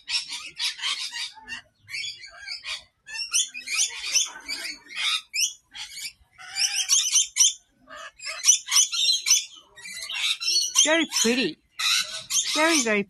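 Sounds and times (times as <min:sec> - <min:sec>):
lorikeets chattering and screeching: 0:00.0 - 0:13.0.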